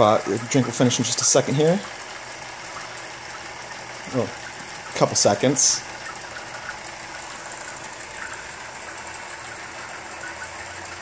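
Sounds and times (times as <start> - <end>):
small pumps whirring: 0.0 - 11.0.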